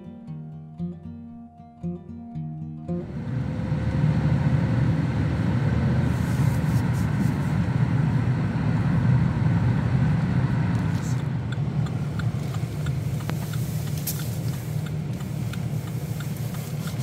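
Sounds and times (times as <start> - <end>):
car interior road and engine noise: 3.0 - 17.0.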